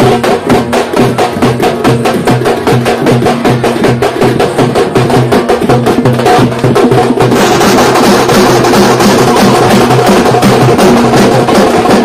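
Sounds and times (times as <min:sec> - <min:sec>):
frame drums beating fast rhythm: 0:00.0 - 0:12.0.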